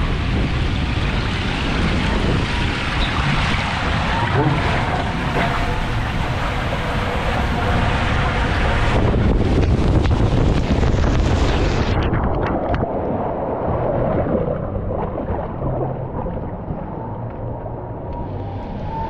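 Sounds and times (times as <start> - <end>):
wind buffeting camera: 0.0 - 17.2
water churning: 0.0 - 19.0
water rushing: 0.0 - 19.0.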